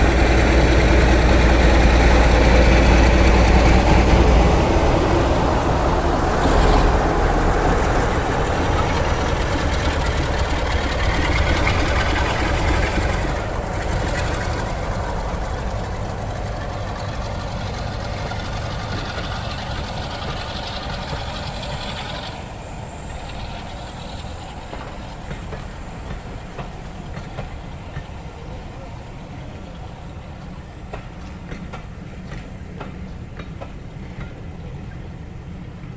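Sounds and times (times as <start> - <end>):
train running past: 0.0 - 35.9.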